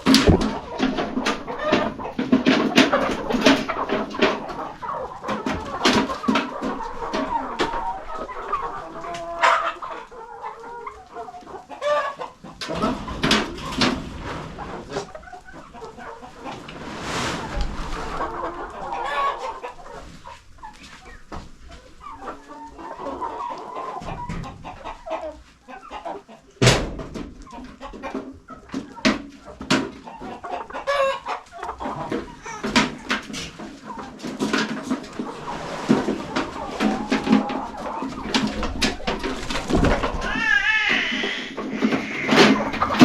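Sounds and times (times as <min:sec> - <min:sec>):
chickens clucking: 0:00.0 - 0:43.0.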